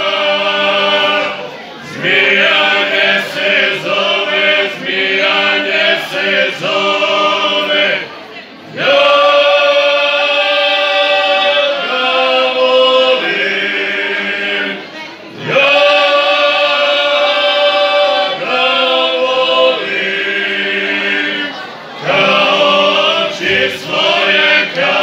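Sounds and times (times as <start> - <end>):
male vocal group singing: 0.0 - 8.1, 8.7 - 14.8, 15.4 - 25.0.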